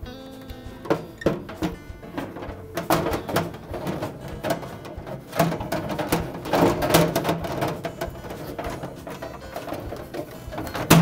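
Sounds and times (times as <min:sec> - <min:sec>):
plastic bin scraping and clicking: 0:00.8 - 0:11.0.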